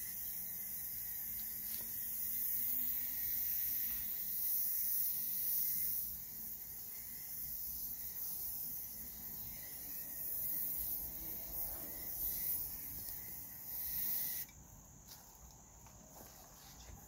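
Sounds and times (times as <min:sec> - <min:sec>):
spray paint can hissing: 0:00.0 - 0:14.5.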